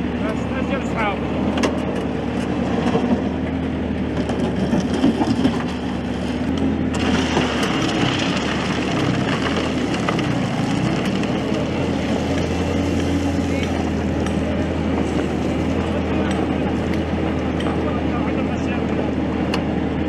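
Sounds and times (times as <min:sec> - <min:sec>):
loader diesel engine running: 0:00.0 - 0:20.0
gravel scraping and rattling: 0:01.8 - 0:18.8.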